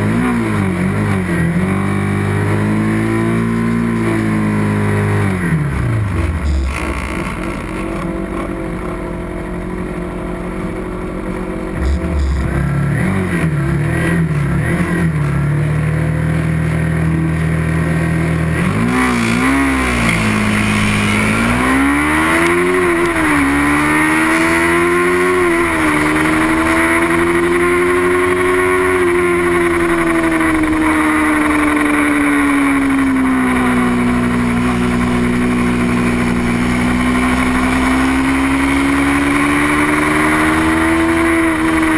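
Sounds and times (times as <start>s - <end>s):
race motorcycle engine revving: 0.0s - 9.9s, 10.9s - 41.9s.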